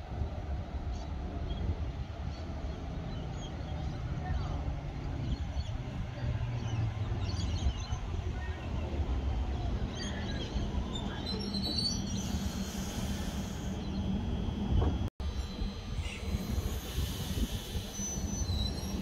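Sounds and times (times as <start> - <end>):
electric train rumbling past: 0.0 - 19.0.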